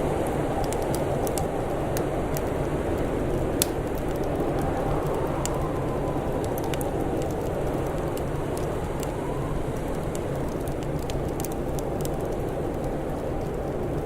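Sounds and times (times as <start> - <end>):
fire popping and snapping: 0.0 - 14.0.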